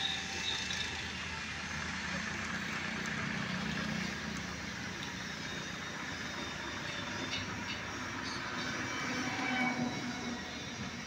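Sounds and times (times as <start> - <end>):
low engine hum: 0.0 - 8.9.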